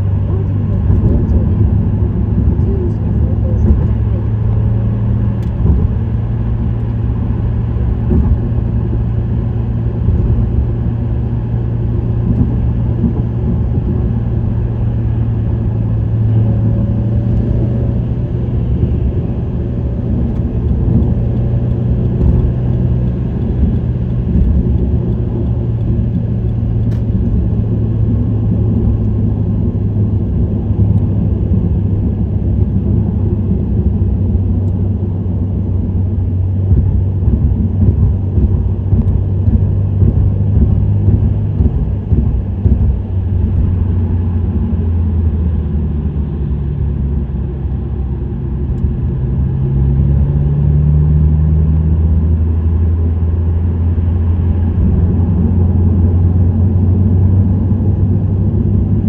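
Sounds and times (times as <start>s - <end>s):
car exhaust drone: 0.0s - 59.0s
road rumble: 0.0s - 59.0s.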